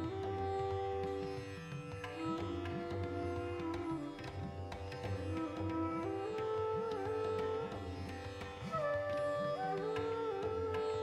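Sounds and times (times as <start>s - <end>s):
bamboo flute melody: 0.0s - 11.0s.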